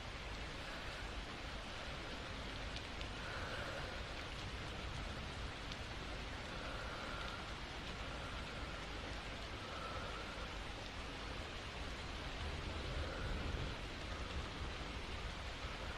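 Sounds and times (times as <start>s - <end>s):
light drip ticks: 0.0s - 15.9s
steady rain falling: 0.0s - 15.9s.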